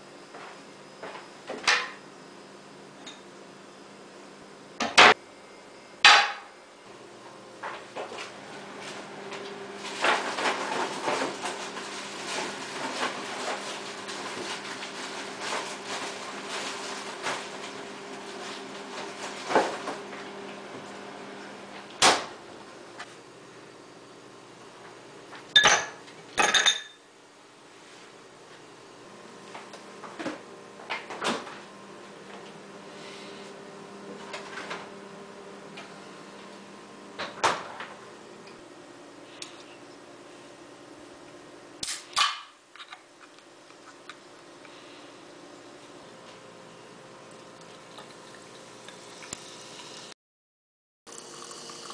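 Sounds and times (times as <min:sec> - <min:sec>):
fridge hum: 0:00.0 - 0:50.2, 0:51.1 - 0:51.9.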